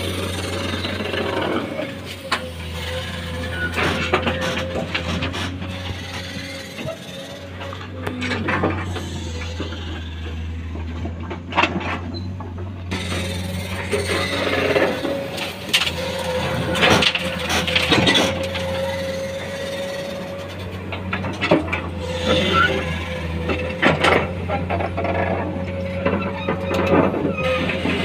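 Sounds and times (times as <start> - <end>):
diesel engines droning: 0.0 - 28.0
excavator bucket digging soil and rock: 0.0 - 28.0.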